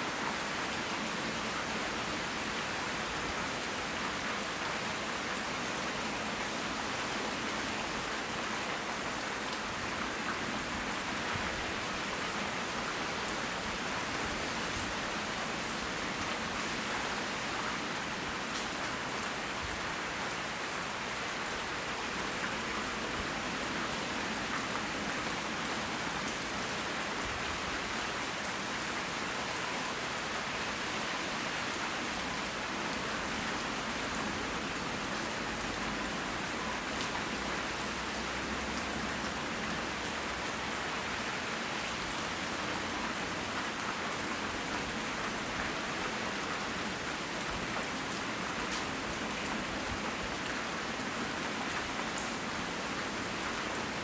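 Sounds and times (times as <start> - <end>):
rain pattering: 0.1 - 54.0.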